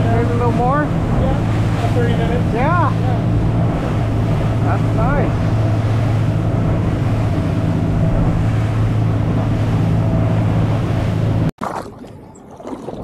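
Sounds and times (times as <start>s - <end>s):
boat engine drone: 0.0s - 11.5s
wind and water rushing: 0.0s - 13.0s.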